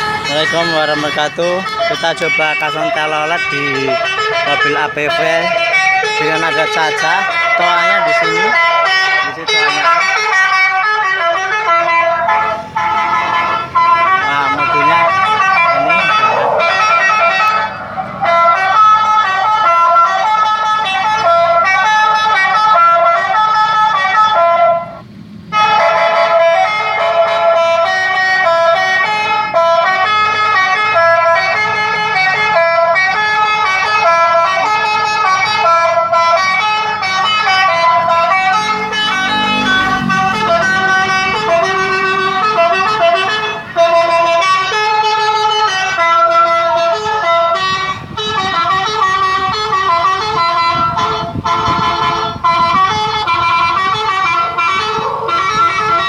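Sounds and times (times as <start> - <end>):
electronic horn playing a tune: 0.0 - 56.0.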